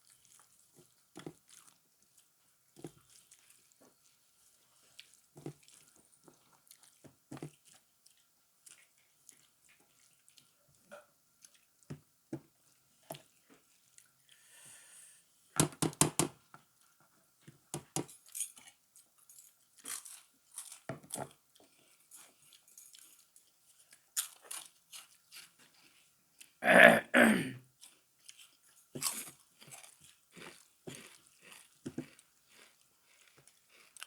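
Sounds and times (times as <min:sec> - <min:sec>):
person chewing and crunching food: 0:00.0 - 0:11.8, 0:12.7 - 0:14.5, 0:17.8 - 0:34.0.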